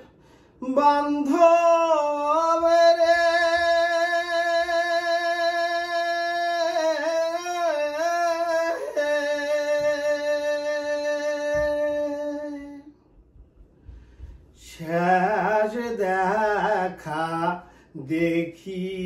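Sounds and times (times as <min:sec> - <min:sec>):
man singing unaccompanied: 0:00.6 - 0:13.0, 0:14.6 - 0:19.0.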